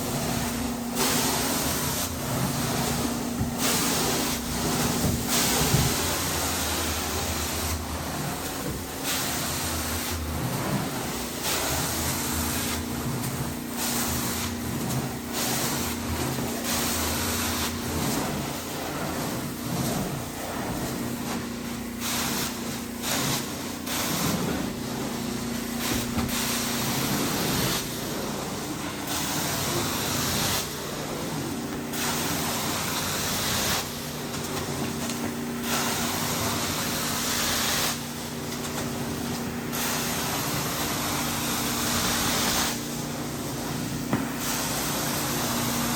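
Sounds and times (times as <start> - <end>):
carpet extractor humming: 0.0 - 45.9
spray and suction hiss: 0.1 - 20.0, 22.0 - 45.9.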